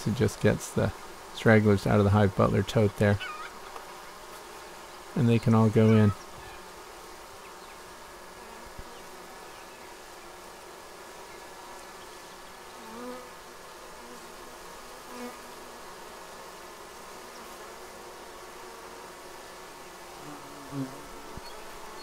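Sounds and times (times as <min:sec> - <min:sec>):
honey bees buzzing: 0:00.0 - 0:22.0
wasp buzzing past: 0:00.0 - 0:22.0.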